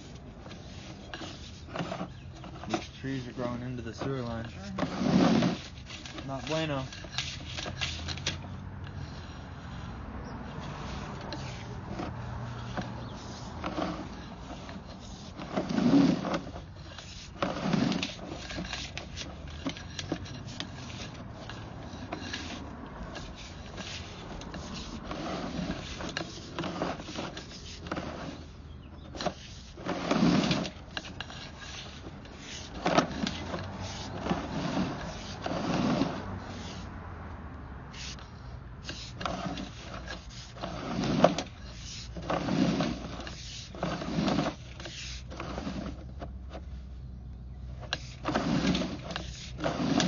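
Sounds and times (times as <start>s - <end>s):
cable scraping in pipe: 0.0s - 37.1s, 37.8s - 50.0s.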